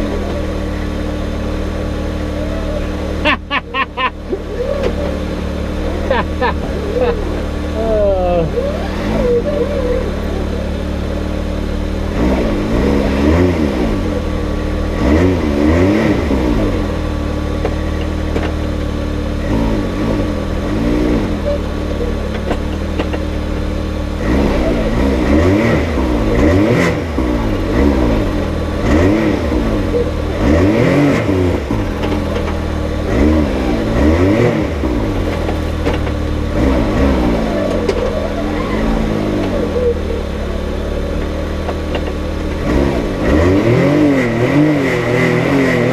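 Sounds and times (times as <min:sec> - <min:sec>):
engine revving up and down: 0:00.0 - 0:45.9.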